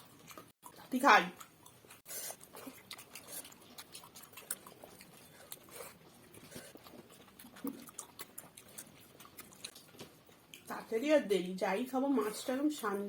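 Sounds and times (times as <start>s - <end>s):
people eating: 0.0s - 11.0s.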